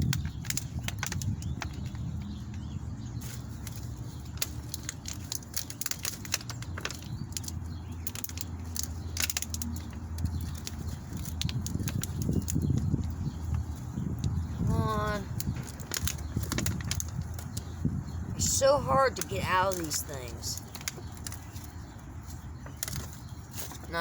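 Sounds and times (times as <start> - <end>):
plant pot crackling and rustling: 0.0 - 24.0
wind rumble on microphone: 0.0 - 24.0.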